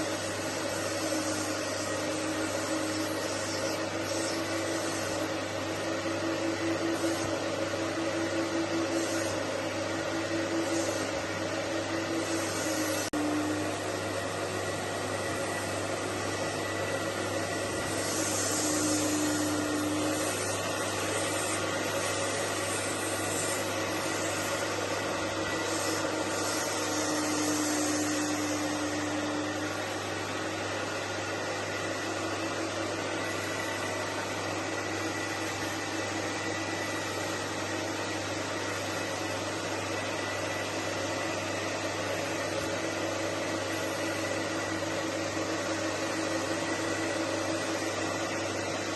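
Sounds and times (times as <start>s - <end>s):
carpet cleaning machine vacuum motors: 0.0s - 48.9s.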